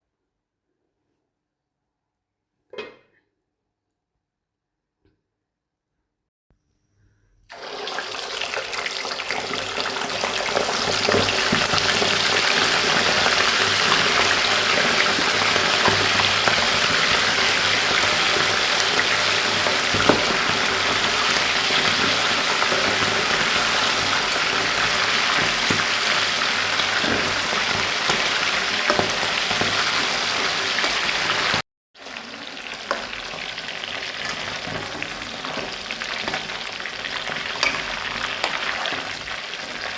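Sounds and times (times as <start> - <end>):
food sizzling in oil: 7.5 - 39.9.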